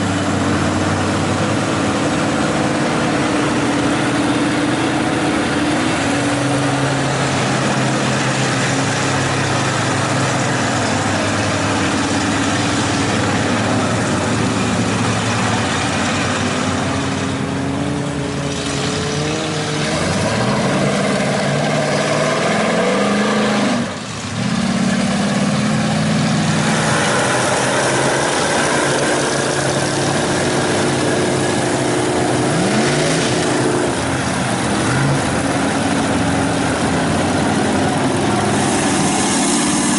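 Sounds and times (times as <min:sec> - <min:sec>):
truck engines revving loudly: 0:00.0 - 0:39.9.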